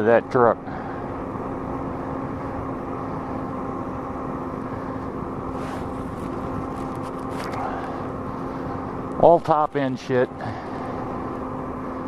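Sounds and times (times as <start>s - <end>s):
vehicle engine and road noise: 0.0s - 12.0s
low hum: 0.6s - 12.0s.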